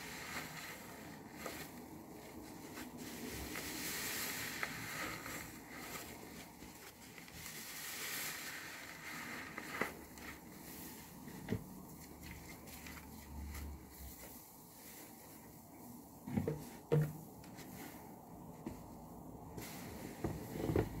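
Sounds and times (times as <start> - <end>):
sponge squishing in soapy foam: 0.0 - 21.0.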